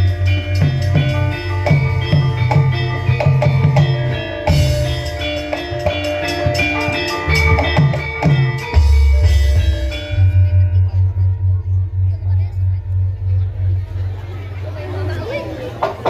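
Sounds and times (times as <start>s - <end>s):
gamelan music: 0.0s - 16.0s
low drum beats: 0.0s - 16.0s.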